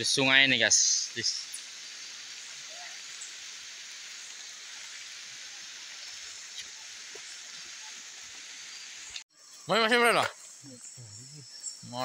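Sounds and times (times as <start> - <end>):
forest at night hiss: 0.0 - 12.0.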